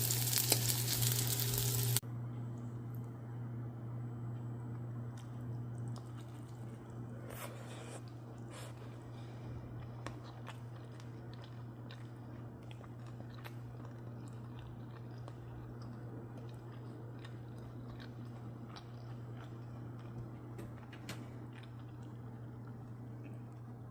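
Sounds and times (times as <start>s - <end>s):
person chewing crunchy food: 0.0s - 2.0s, 5.2s - 23.9s
steady low hum: 0.0s - 23.9s.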